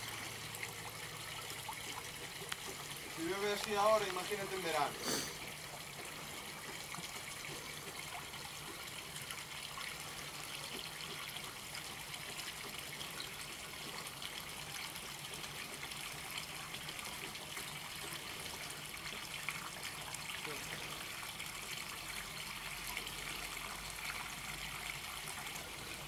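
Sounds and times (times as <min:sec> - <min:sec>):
fountain water splashing into basin: 0:00.0 - 0:26.0.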